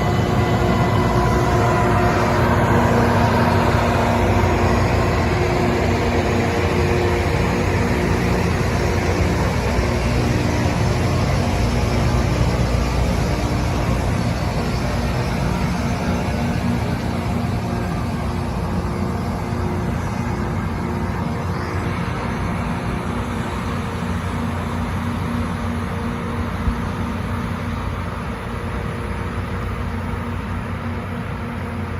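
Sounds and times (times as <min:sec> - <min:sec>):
broad rushing noise: 0:00.0 - 0:31.9
diesel drone: 0:00.0 - 0:31.9.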